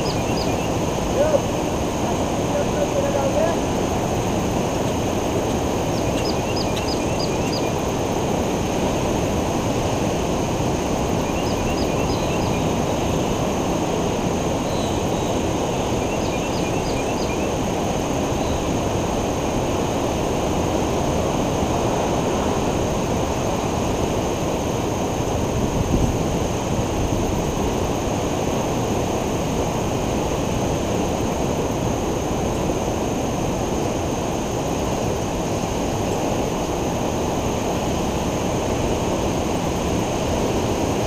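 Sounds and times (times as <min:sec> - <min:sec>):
ocean surf breaking: 0:00.0 - 0:16.0, 0:17.6 - 0:41.0.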